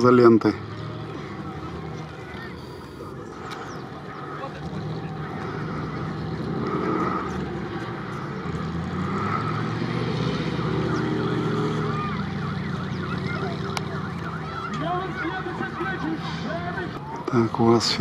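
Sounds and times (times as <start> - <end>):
engine revving under load: 0.0 - 18.0.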